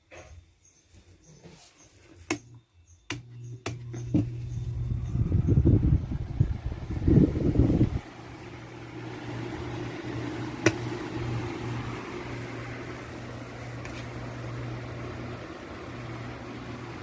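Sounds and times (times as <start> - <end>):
electric fan running: 2.2 - 17.0.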